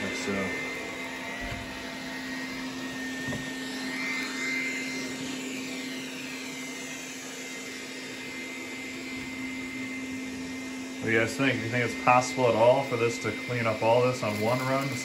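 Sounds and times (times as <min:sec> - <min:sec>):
robot vacuum humming on carpet: 0:00.0 - 0:15.0.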